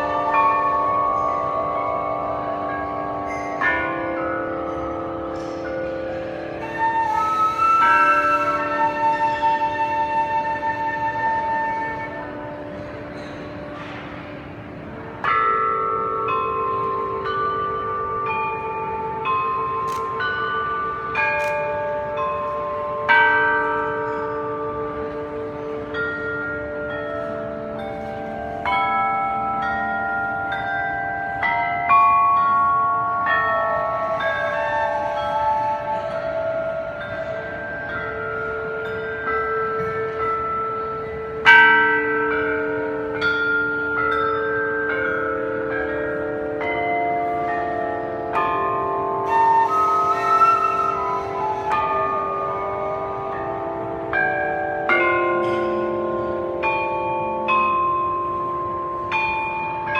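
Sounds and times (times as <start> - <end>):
bells ringing: 0.0 - 59.9.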